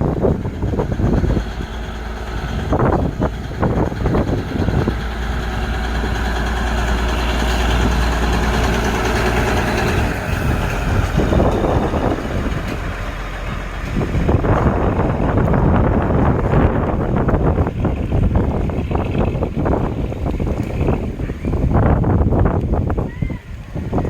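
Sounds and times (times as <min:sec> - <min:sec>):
electric train running: 0:00.0 - 0:21.0.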